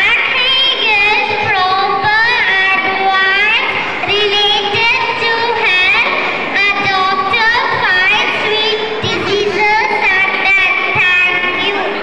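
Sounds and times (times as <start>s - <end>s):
girl singing into microphone: 0.0s - 12.0s.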